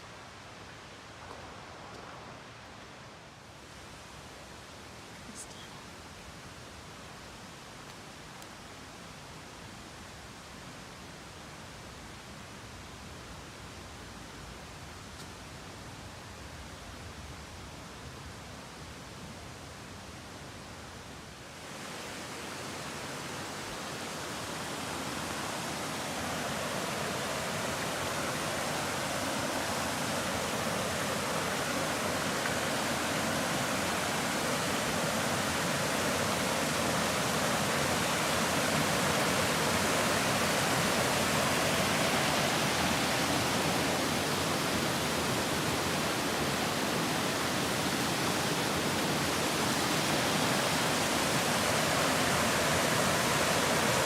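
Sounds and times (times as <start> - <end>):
rushing brook: 0.0 - 54.0.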